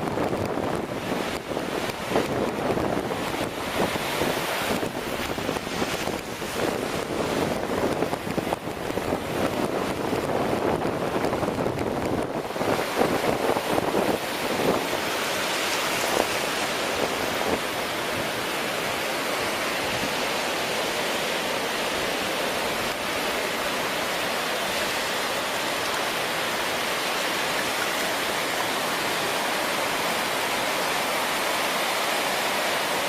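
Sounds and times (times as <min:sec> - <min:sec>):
wind-driven surf hissing: 0:00.0 - 0:33.0.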